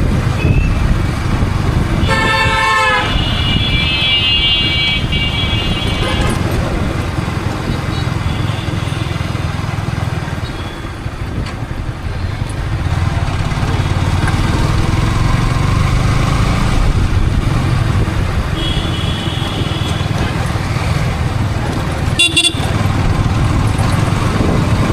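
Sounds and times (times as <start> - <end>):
motorcycle engine running: 0.0 - 24.9
road noise: 0.0 - 24.9.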